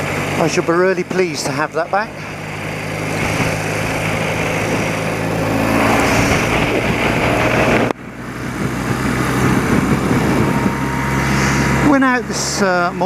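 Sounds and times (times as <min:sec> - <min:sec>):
motorcycle engine running: 0:00.0 - 0:13.0
wind and road rush: 0:00.0 - 0:13.0.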